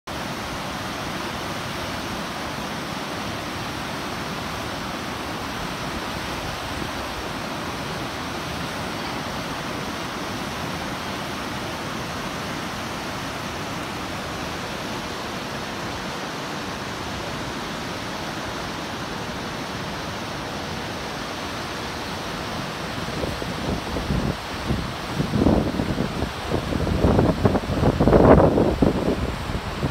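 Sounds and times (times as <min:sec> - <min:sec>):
water rushing over weirs: 0:00.1 - 0:29.9.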